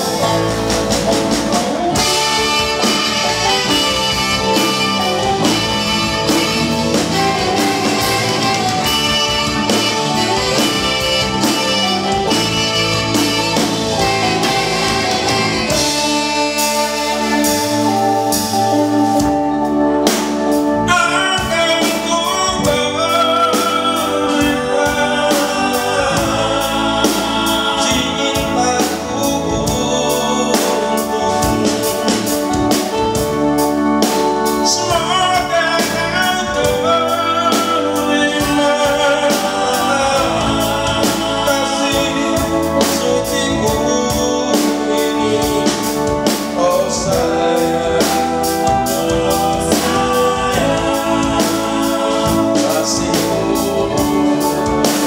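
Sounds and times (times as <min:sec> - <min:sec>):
man singing lead vocals: 0:00.0 - 0:19.5, 0:20.5 - 0:55.0
live band playing: 0:00.0 - 0:55.0.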